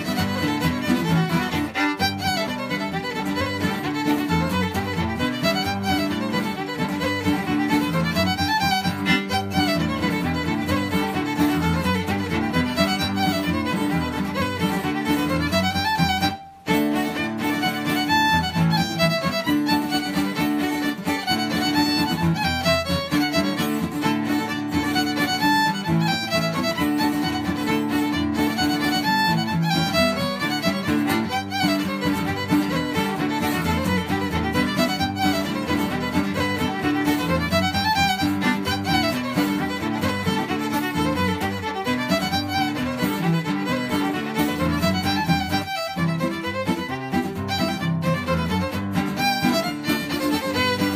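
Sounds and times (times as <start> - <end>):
fiddle playing a reel: 0.0 - 50.9
guitar accompaniment: 0.0 - 50.9.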